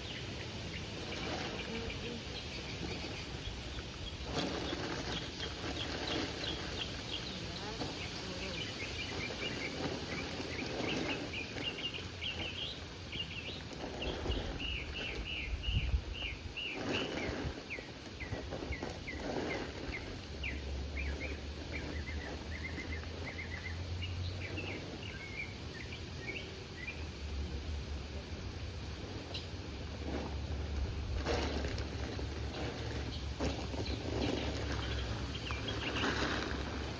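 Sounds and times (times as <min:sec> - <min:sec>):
rustling: 0:00.0 - 0:25.6, 0:28.8 - 0:36.9
small birds chirping: 0:00.0 - 0:36.9.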